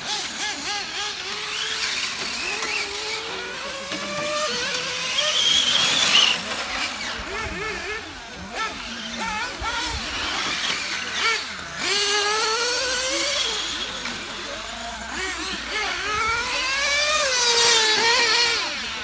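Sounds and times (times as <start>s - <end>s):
electric rc car motor whine: 0.0s - 19.0s.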